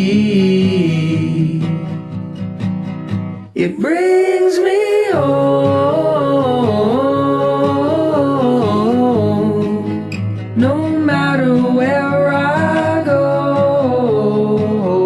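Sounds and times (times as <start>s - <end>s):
person singing: 0.0s - 2.1s, 3.6s - 15.0s
strummed acoustic guitar: 0.0s - 15.0s.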